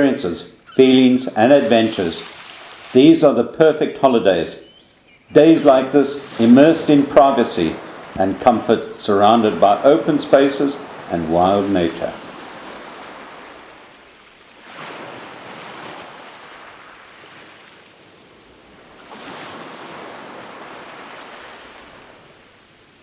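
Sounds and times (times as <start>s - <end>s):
sea waves washing onto shore: 0.6s - 3.8s, 4.6s - 23.0s.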